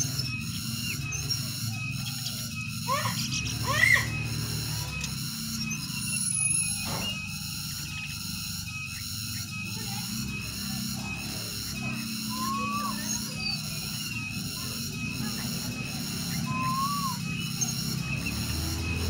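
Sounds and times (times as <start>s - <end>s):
bird fluty whistles: 0.0s - 19.0s
high pulsing buzz: 0.0s - 19.0s.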